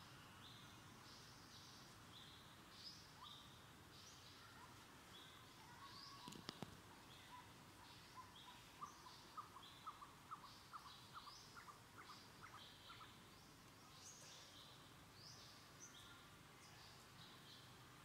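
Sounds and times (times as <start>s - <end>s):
faint birdsong chirping: 0.0s - 18.0s.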